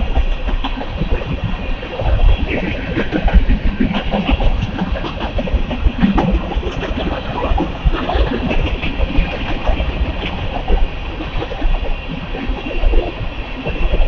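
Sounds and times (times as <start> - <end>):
train rumble: 0.0 - 14.0
wheels clattering on rails: 0.0 - 14.0.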